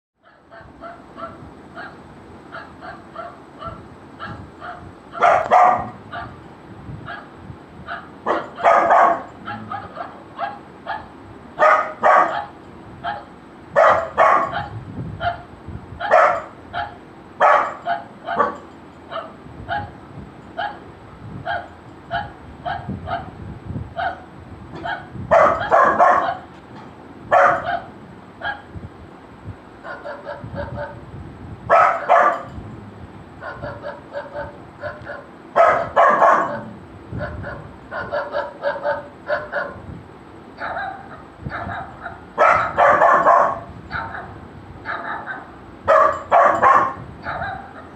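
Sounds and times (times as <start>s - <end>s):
puppy barking: 0.2s - 6.4s, 7.1s - 7.3s, 7.9s - 20.0s, 20.6s - 20.8s, 21.4s - 23.4s, 24.0s - 26.5s, 27.3s - 28.7s, 29.8s - 31.0s, 31.7s - 32.6s, 33.4s - 39.8s, 40.6s - 47.9s
recorded dog barking: 0.2s - 6.4s, 7.0s - 20.0s, 20.6s - 23.4s, 24.0s - 26.6s, 27.3s - 28.7s, 29.8s - 31.0s, 31.7s - 32.6s, 33.4s - 39.8s, 40.6s - 47.9s.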